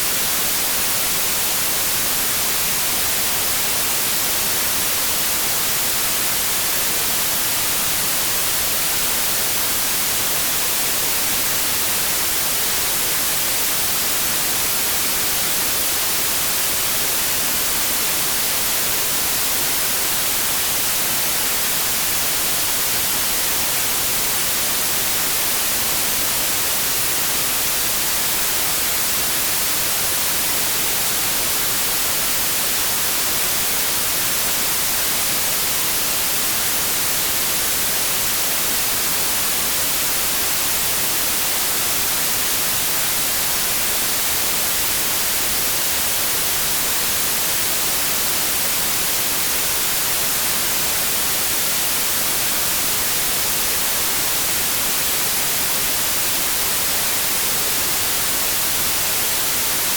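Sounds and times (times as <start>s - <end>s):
white noise static hiss: 0.0s - 59.9s.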